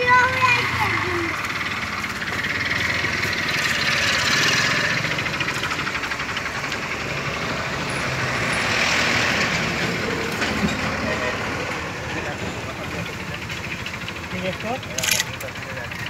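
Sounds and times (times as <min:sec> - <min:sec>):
vehicles passing by: 0:00.0 - 0:16.0.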